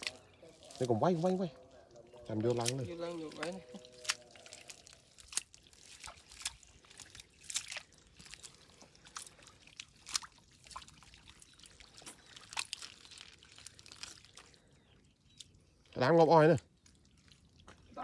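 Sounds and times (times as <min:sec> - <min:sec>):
hands squelching in wet mud: 0:00.0 - 0:16.0, 0:16.6 - 0:18.0.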